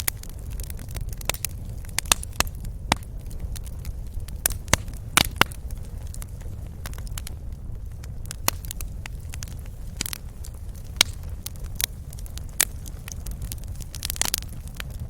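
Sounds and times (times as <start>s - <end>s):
fire rumbling: 0.0s - 15.0s
wood fire popping and snapping: 0.0s - 15.0s.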